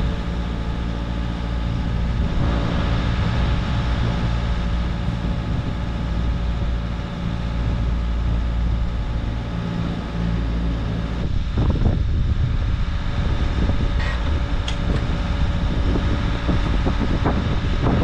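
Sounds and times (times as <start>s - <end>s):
diesel engine idling: 0.0s - 17.9s.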